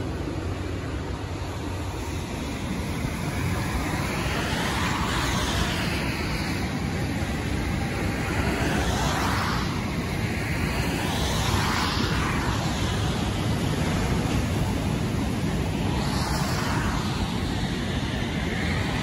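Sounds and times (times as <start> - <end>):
surf rumbling on rocky shore: 0.0 - 19.0
waves hissing: 0.0 - 19.0.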